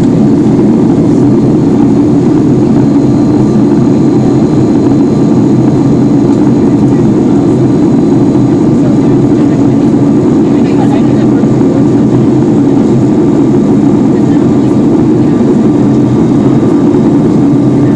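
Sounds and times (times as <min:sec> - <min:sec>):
jet engine and airflow in cabin: 0:00.0 - 0:17.9.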